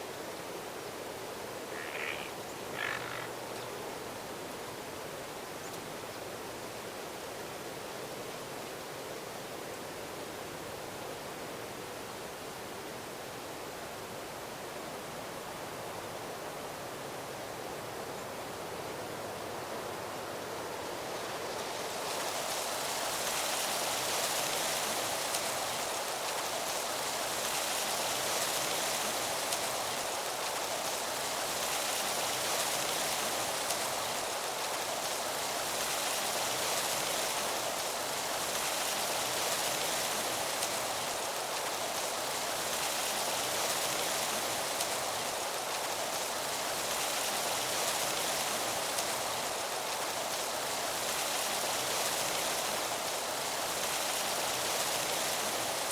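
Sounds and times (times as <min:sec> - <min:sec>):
wind rustling leaves: 0:00.0 - 0:55.9.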